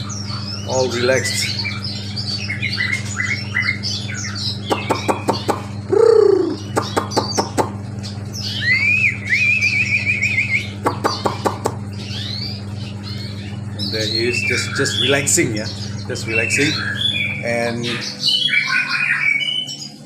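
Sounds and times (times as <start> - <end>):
bird singing fast trill: 0.0 - 20.0
songbirds chirping and twittering: 0.0 - 20.0
steady low hum: 0.0 - 20.0.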